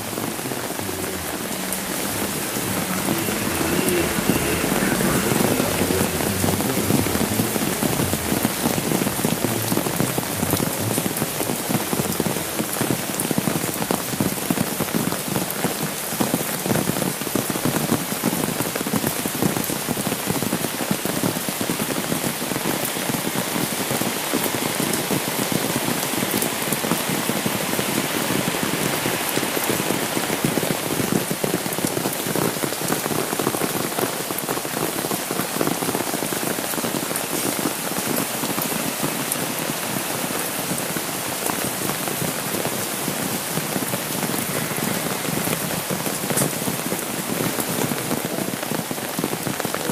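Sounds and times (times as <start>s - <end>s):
rain on umbrella: 0.0s - 49.9s
rain on wet road: 0.0s - 49.9s.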